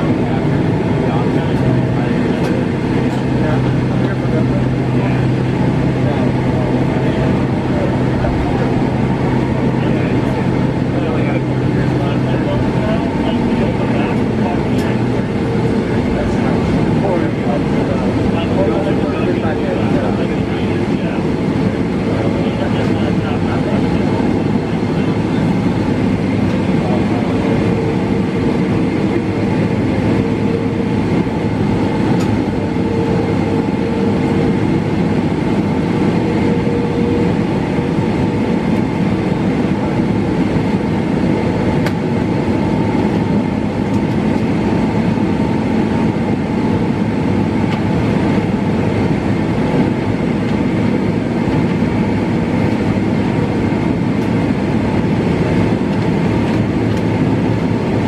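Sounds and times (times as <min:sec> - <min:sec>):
jet engine hum at idle: 0:00.0 - 0:58.0
wheels rumbling on taxiway: 0:00.0 - 0:58.0.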